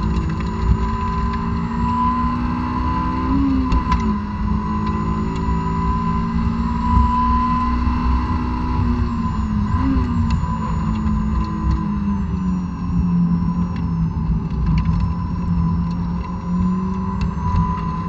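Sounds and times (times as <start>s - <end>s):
car engine revving at full throttle: 0.0s - 18.0s
road noise: 0.0s - 18.0s.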